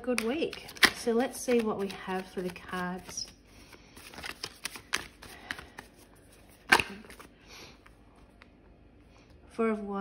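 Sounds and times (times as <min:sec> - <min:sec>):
cards being shuffled: 0:00.1 - 0:08.6.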